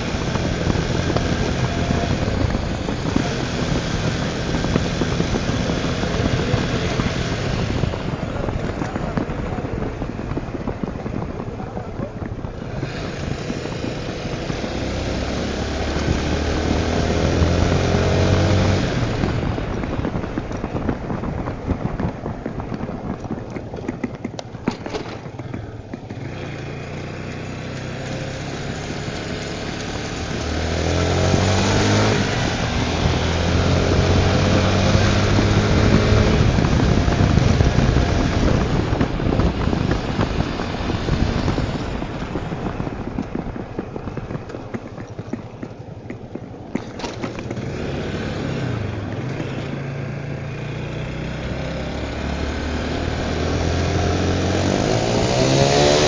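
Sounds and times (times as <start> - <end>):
motorcycle engine accelerating: 0.0 - 56.0
steady rushing noise: 0.0 - 56.0.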